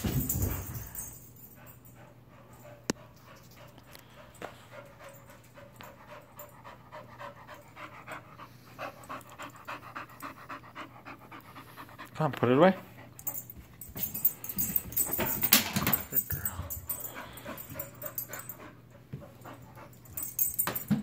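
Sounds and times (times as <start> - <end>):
low steady hum: 0.0 - 21.0
dog panting: 0.6 - 15.4, 16.4 - 20.6.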